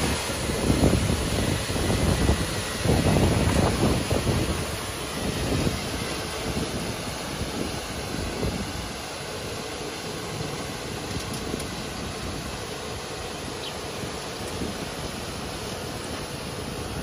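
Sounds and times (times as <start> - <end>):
road sweeper hissing: 0.0 - 17.0.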